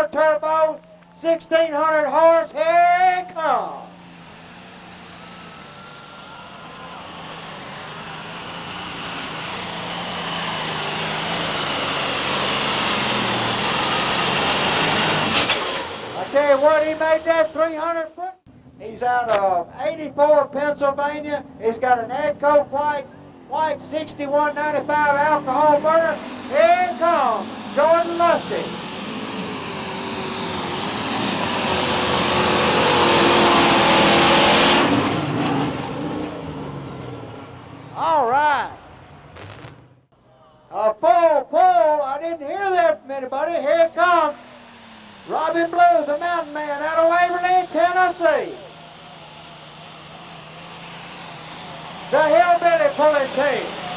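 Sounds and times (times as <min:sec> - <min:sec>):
tractor engine at full power: 0:00.0 - 0:19.4, 0:20.8 - 0:40.2, 0:41.8 - 0:53.9
steady high whine: 0:00.0 - 0:19.5, 0:23.0 - 0:34.3, 0:36.8 - 0:41.0, 0:41.9 - 0:53.9.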